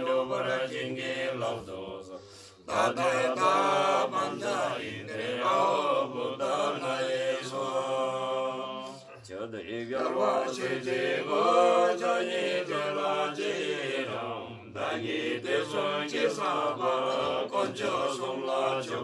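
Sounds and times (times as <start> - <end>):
monks chanting in low recitation: 0.0 - 19.0.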